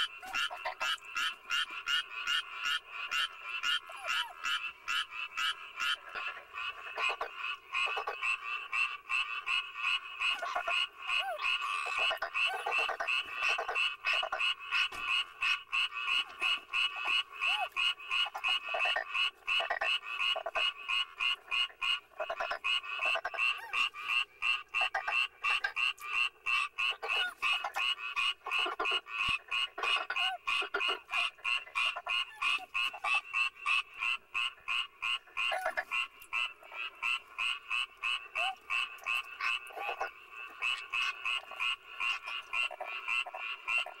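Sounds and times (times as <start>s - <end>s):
frogs croaking: 0.0s - 44.0s.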